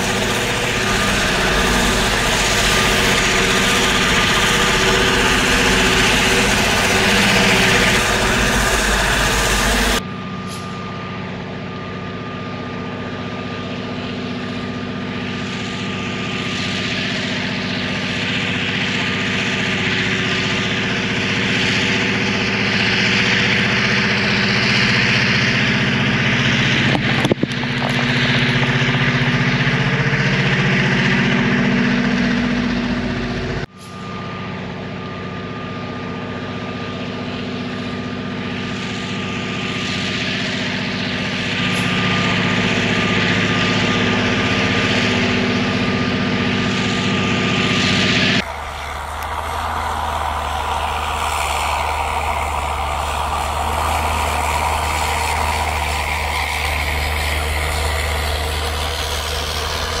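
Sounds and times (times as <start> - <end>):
diesel locomotives droning: 0.0 - 60.0.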